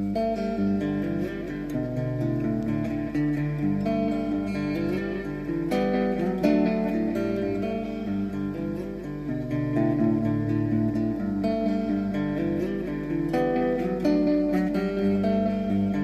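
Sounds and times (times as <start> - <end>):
guitar chords and picked notes: 0.0 - 16.0.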